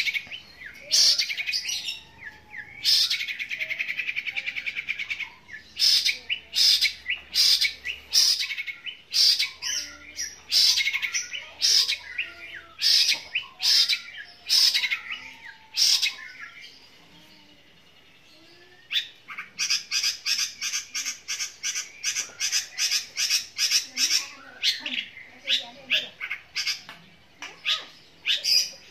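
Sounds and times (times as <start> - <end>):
bird giving harsh calls: 0.0 - 16.8, 18.8 - 28.9.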